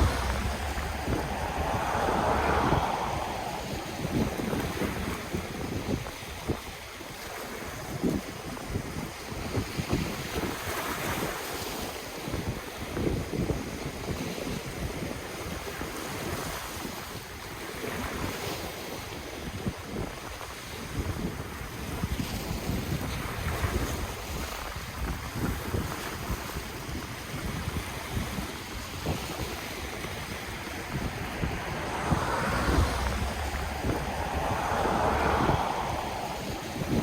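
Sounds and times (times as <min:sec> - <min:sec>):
ocean waves washing on shore: 0:00.0 - 0:14.3, 0:19.0 - 0:37.0
wind buffeting microphone: 0:00.0 - 0:15.8, 0:19.4 - 0:37.0.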